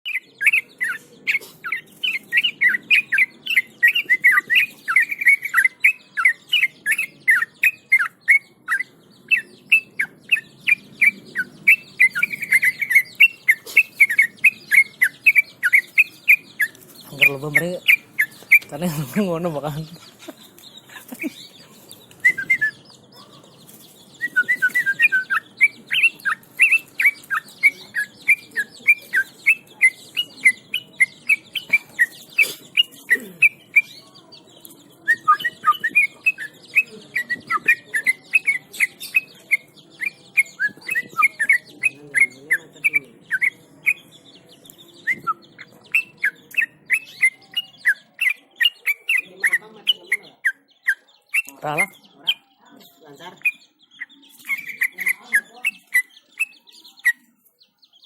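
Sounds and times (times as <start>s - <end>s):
bird chirping song: 0.0s - 58.0s.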